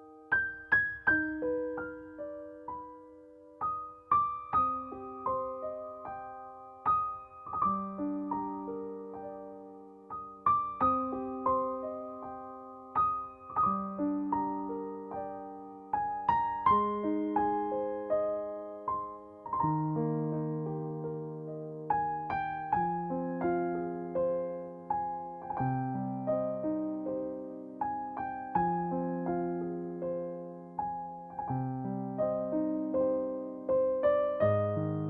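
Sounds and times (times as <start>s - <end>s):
gentle piano arpeggios: 0.0s - 35.0s.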